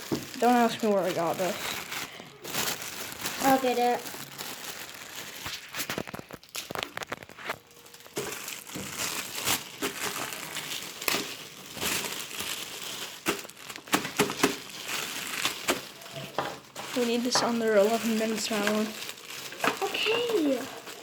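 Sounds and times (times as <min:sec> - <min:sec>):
packaging crinkling and rustling: 0:00.0 - 0:21.0
packaging tearing: 0:00.0 - 0:21.0.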